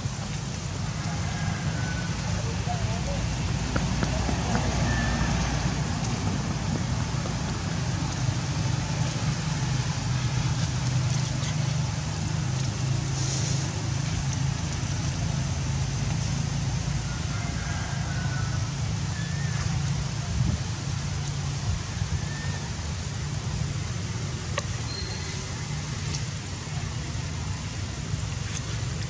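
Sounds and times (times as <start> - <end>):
outdoor rumble and hiss: 0.0 - 29.0.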